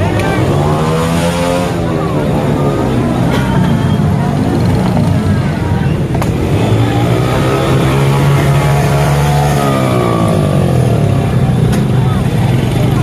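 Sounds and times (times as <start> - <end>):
vehicle engines passing slowly: 0.0 - 13.0.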